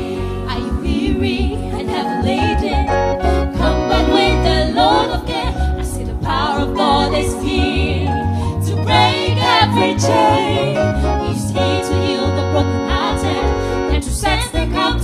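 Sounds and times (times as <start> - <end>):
gospel choir singing: 0.0 - 15.0
instrumental accompaniment: 0.0 - 15.0
steady bass line: 0.0 - 15.0.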